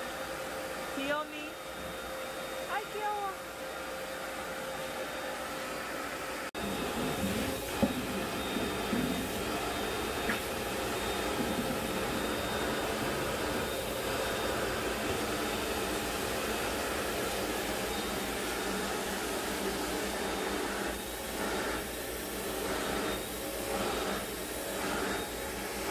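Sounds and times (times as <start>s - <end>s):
electric fan whirring: 0.0s - 25.9s.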